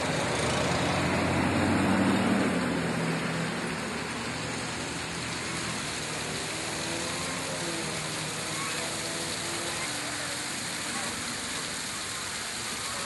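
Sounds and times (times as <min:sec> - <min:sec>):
passing vehicle rumble: 0:00.0 - 0:13.0
road noise hiss: 0:00.0 - 0:13.0.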